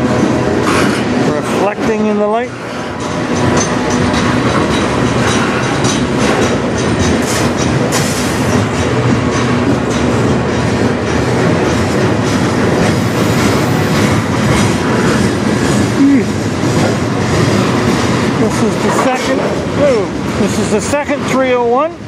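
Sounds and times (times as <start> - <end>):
train wheels rumbling on rail: 0.0 - 22.0
wheels clicking over rail joints: 0.1 - 22.0.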